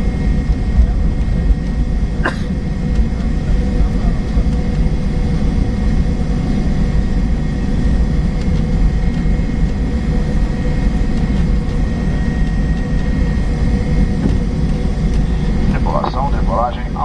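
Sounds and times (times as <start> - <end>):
jet engines whining: 0.0 - 17.0
wheels rumbling on runway: 0.0 - 17.0.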